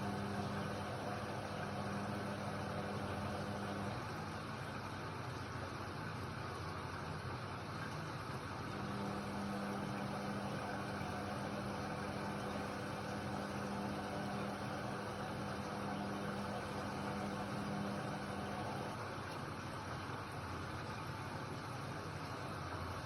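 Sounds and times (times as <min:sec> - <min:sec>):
steady motor hum: 0:00.0 - 0:23.0
washer-dryer running: 0:00.0 - 0:23.0.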